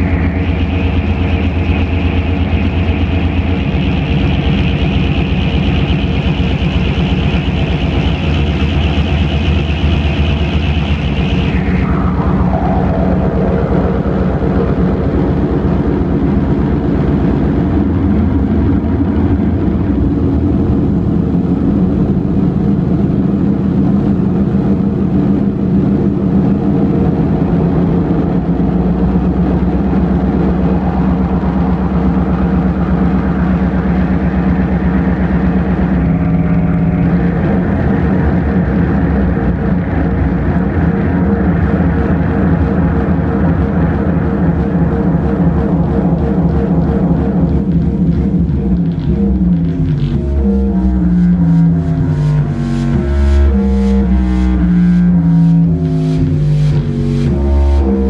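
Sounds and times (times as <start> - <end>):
falling tone: 0.0 - 23.4, 26.0 - 58.0
electronic drone music: 0.0 - 58.0.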